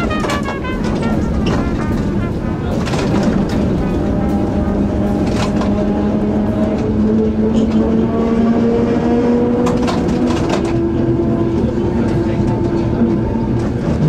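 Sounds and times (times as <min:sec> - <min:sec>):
wheels clicking and knocking: 0:00.0 - 0:08.2, 0:09.2 - 0:14.0
tram motor whine: 0:00.0 - 0:14.0
wheels rumbling on rails: 0:00.0 - 0:14.0.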